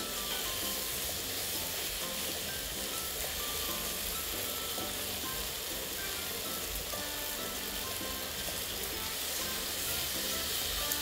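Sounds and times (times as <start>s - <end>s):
background music: 0.0s - 11.0s
meat sizzling on griddle: 0.0s - 11.0s.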